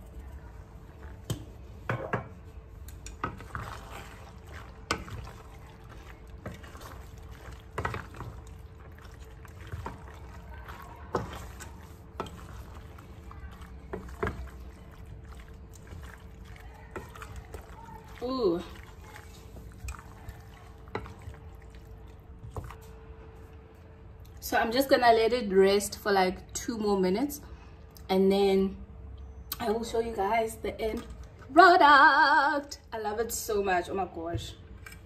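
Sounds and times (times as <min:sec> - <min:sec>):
wet squelching of stirred pasta: 0:00.0 - 0:25.3, 0:29.5 - 0:33.6.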